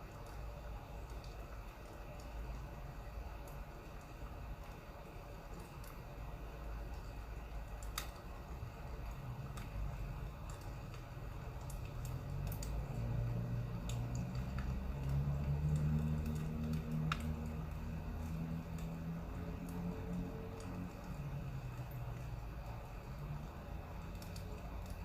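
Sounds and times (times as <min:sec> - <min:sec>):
firewood popping and crackling: 0:00.0 - 0:25.0.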